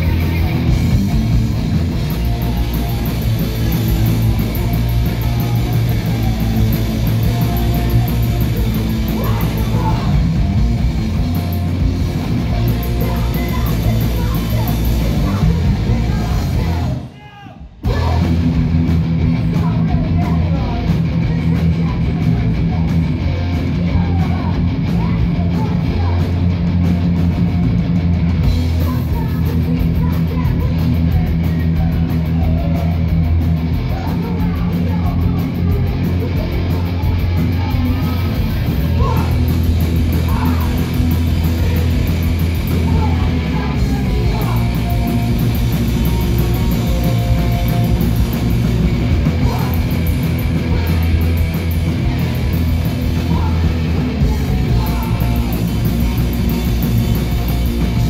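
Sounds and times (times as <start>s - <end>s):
shouted vocals: 0.0s - 18.6s, 28.8s - 58.0s
punk rock band playing live: 0.0s - 58.0s.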